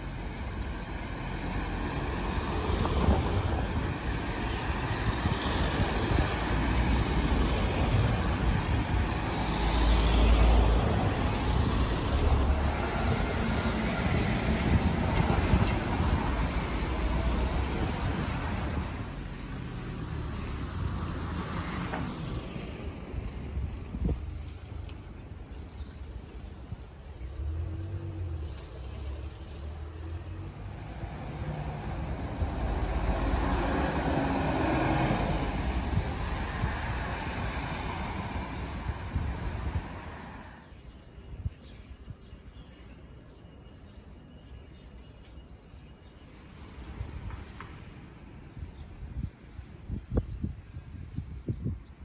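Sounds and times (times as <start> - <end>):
street background: 0.0 - 52.0
vehicle engine rumble and road noise: 0.0 - 52.0.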